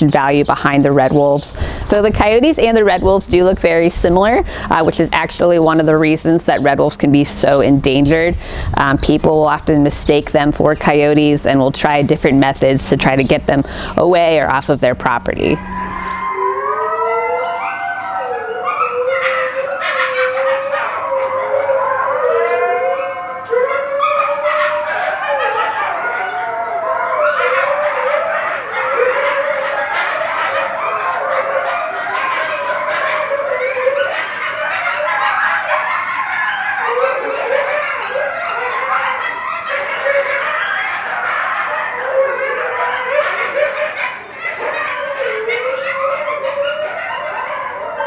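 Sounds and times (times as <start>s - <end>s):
wolves howling: 0.1s - 9.8s, 14.1s - 48.0s.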